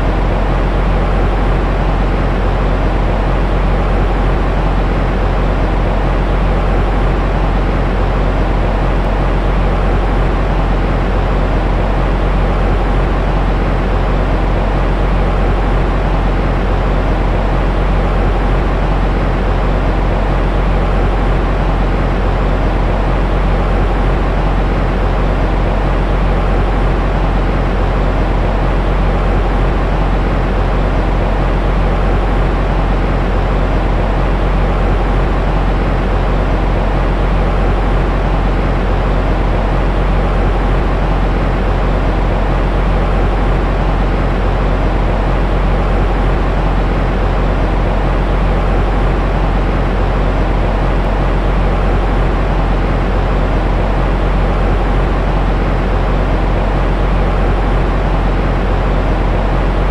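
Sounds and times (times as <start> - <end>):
deep white noise hiss: 0.0 - 59.9.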